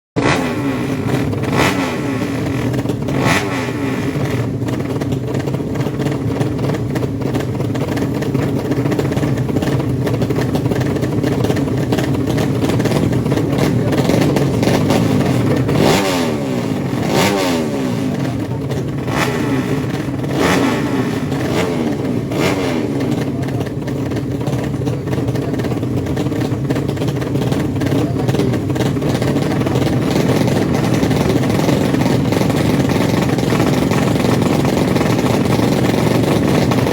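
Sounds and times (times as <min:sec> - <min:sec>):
racing motorcycle engines revving: 0:00.2 - 0:36.9.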